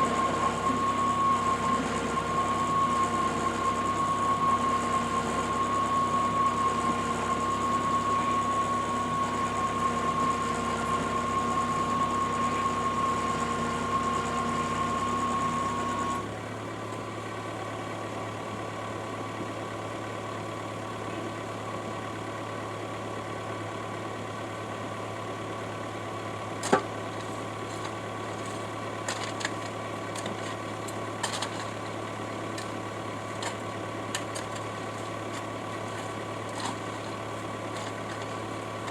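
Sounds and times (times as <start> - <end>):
earth auger engine whining: 0.0 - 38.9.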